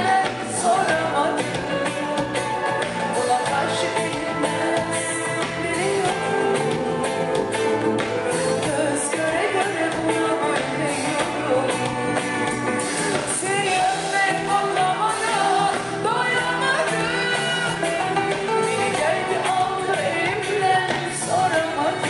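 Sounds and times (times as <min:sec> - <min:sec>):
band playing pop music: 0:00.0 - 0:22.0
woman singing into a microphone: 0:00.0 - 0:22.0.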